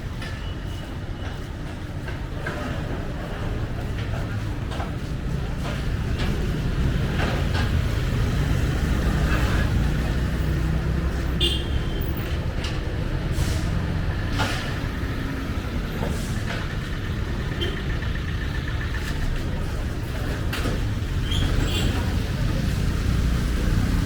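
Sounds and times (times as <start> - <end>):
vehicle engine rumbling: 0.0 - 24.0
passers-by voices: 0.1 - 24.0.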